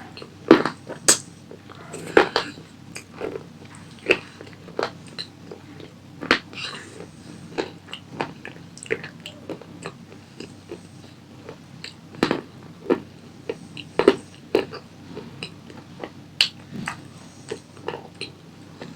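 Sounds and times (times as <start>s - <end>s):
person chewing crunchy snack: 0.0s - 18.9s.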